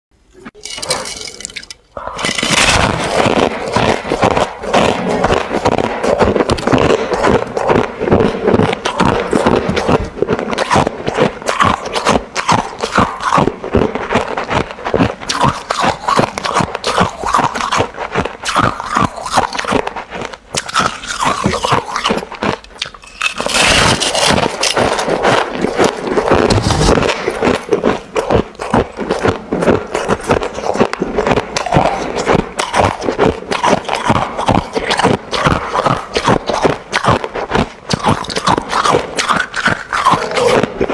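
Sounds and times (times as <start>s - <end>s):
chewing crushed ice: 0.6s - 40.9s.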